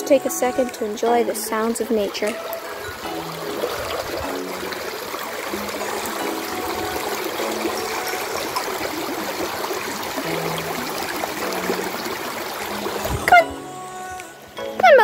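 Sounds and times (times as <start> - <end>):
creek babbling over rocks: 0.0 - 15.0.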